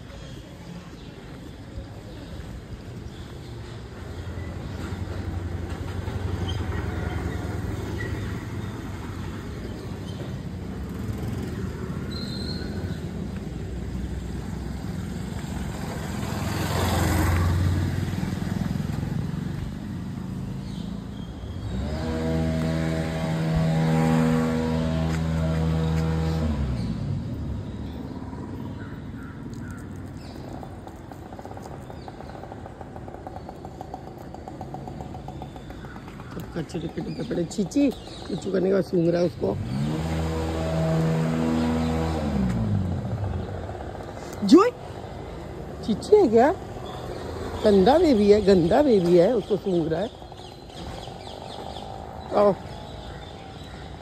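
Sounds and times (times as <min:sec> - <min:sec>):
motor vehicle rumbling on road: 0:00.0 - 0:54.0.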